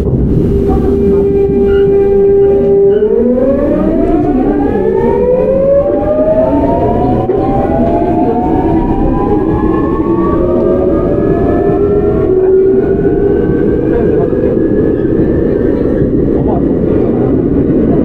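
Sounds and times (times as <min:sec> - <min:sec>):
train inverter whining: 0:00.0 - 0:18.0
train rumbling on rails: 0:00.0 - 0:18.0.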